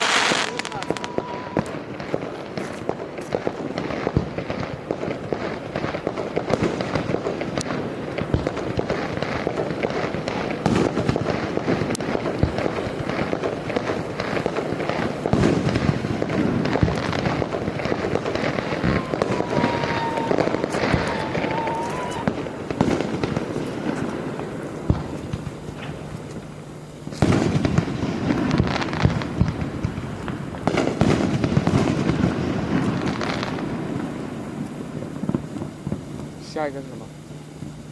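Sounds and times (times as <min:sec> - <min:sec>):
firework crackling: 0:00.0 - 0:37.9.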